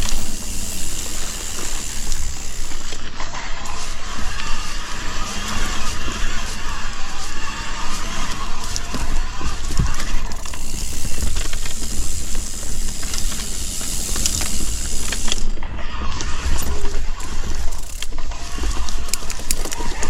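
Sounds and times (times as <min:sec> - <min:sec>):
bike clicks and rattles: 0:00.0 - 0:20.0
bike tyres crunching over dirt: 0:00.0 - 0:20.0.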